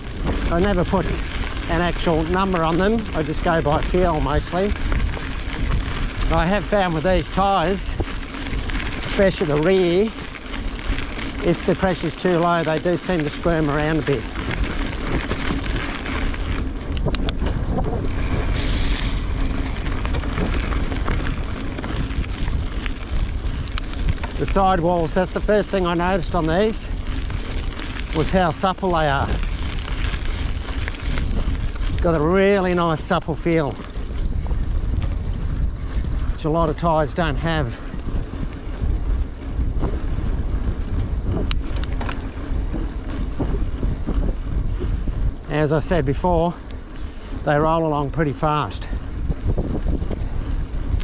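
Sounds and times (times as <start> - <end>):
bike tyres crunching on gravel: 0.0 - 51.0
wind buffeting microphone: 0.0 - 51.0.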